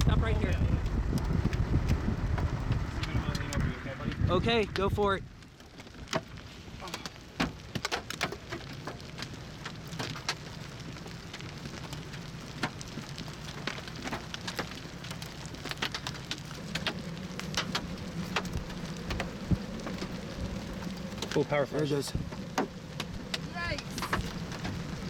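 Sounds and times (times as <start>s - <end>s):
rain tapping on vehicle: 0.0s - 25.0s.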